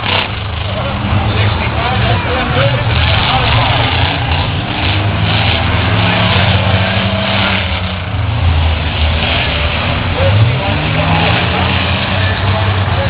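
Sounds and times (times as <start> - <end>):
heavy background noise: 0.0 - 13.0
truck engine running hard: 0.0 - 13.0.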